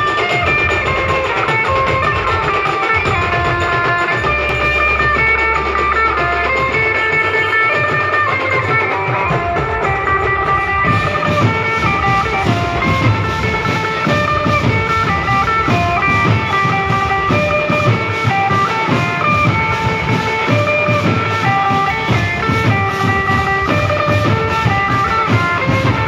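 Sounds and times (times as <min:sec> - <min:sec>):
held-note melody: 0:00.0 - 0:26.0
steady drum beat: 0:00.0 - 0:26.0.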